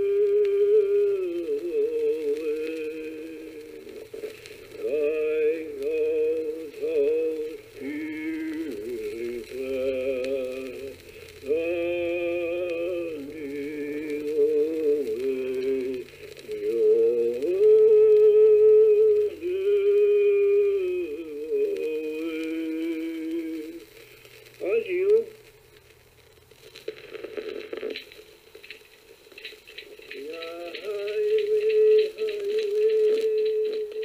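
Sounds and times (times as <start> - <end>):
person singing wordless song: 0.0 - 25.3, 29.5 - 34.0.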